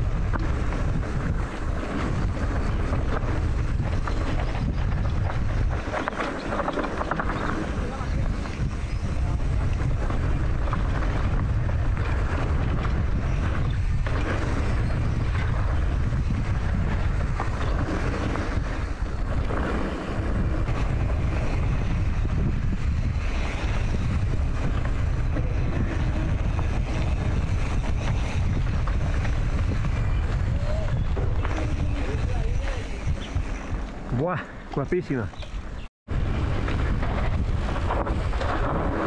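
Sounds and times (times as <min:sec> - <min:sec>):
wind rumbling on microphone: 0:00.0 - 0:39.0.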